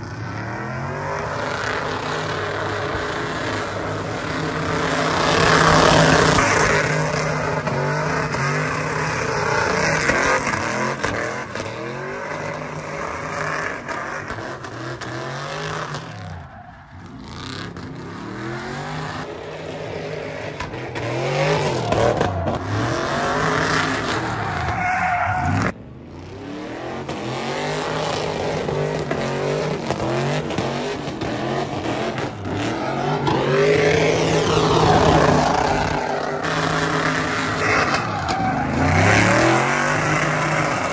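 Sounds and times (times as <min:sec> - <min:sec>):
pickup engine revving: 0:00.0 - 0:40.9
tires squealing on asphalt: 0:00.0 - 0:40.9.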